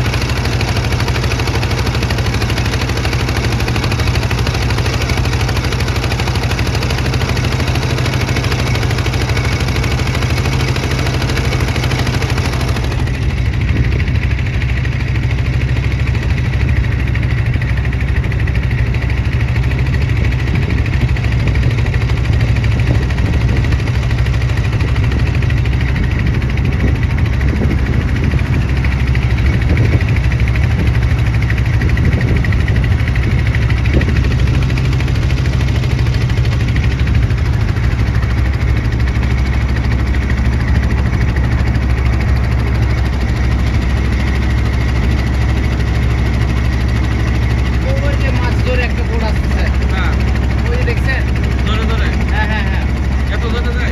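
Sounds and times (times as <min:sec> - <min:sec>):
boat engine rumbling: 0:00.0 - 0:53.9.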